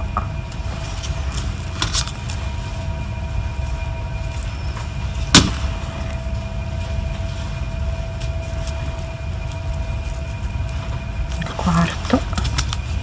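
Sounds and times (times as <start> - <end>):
faint hum: 0.0 - 13.0
low room rumble: 0.0 - 13.0.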